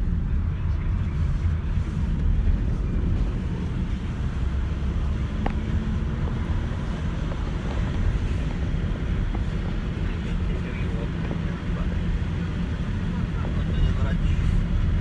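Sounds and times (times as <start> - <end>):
road and engine rumble in van: 0.0 - 15.0.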